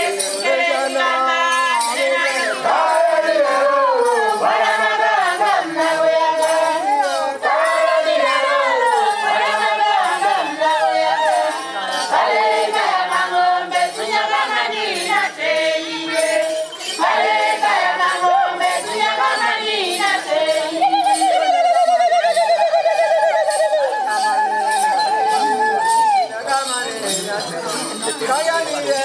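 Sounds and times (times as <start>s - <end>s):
group singing: 0.0s - 26.2s.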